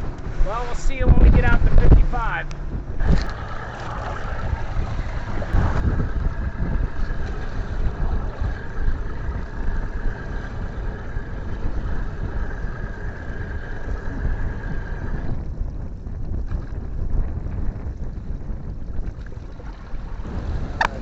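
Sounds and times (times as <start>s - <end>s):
outboard motor whining: 0.0s - 21.0s
wind and waves against hull: 0.0s - 21.0s.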